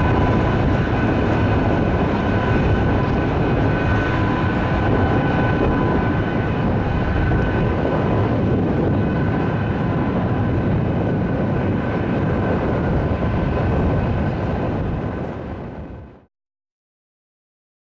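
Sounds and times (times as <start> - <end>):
jet engines rushing and whining: 0.0 - 16.3.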